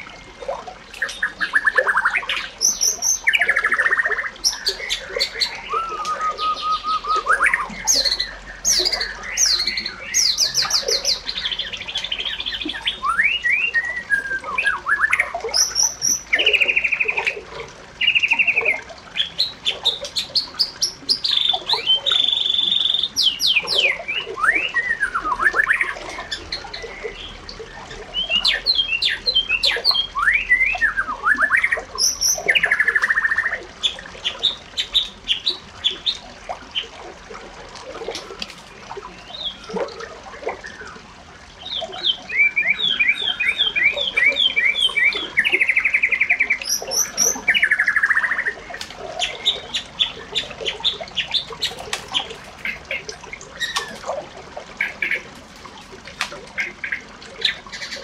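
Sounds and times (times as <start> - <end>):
birds singing and calling: 0.0 - 37.2, 38.0 - 58.0.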